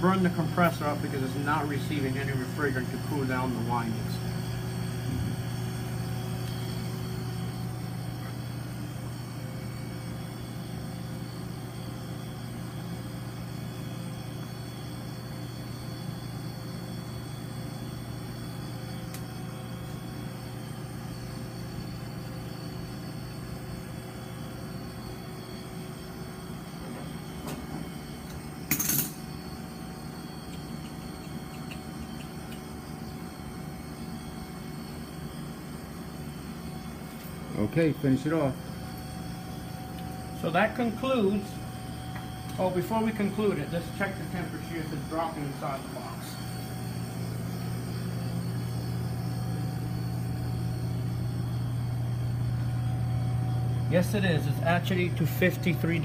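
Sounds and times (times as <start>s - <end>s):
refrigeration unit humming: 0.0s - 56.0s.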